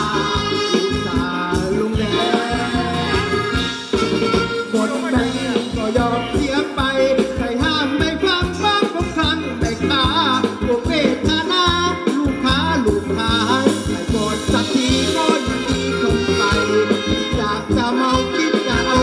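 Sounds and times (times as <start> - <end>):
quick drum beat: 0.0 - 19.0.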